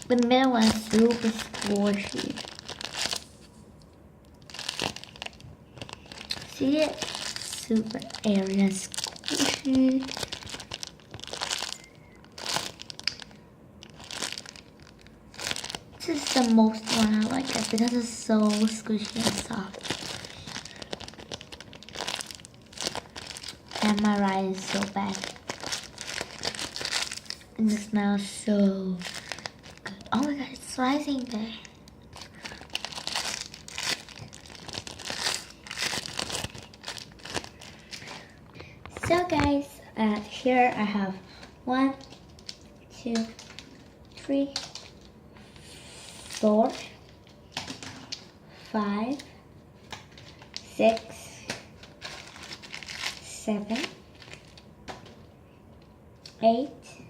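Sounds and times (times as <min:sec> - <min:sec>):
plastic packaging crinkling: 0:00.0 - 0:45.2, 0:46.2 - 0:48.4, 0:49.8 - 0:55.3.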